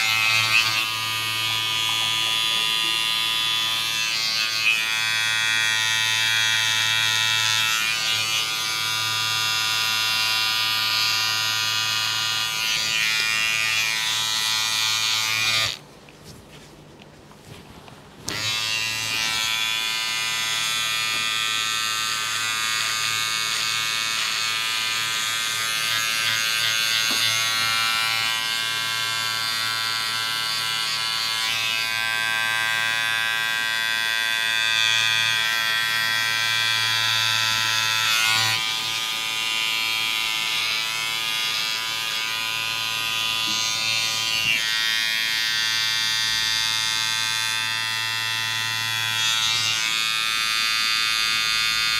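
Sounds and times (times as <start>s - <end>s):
electric hair clipper buzzing: 0.0s - 15.8s, 18.2s - 51.9s.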